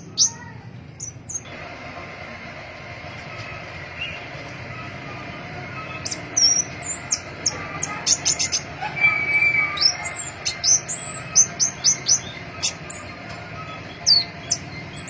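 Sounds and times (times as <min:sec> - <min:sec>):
bird chirping and ticking: 0:00.0 - 0:01.5, 0:03.9 - 0:15.0.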